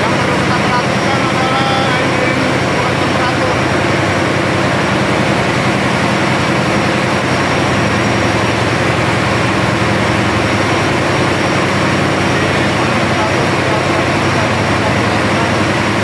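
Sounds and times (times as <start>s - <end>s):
low hum: 0.0s - 16.0s
ship diesel engine drone: 0.0s - 16.0s.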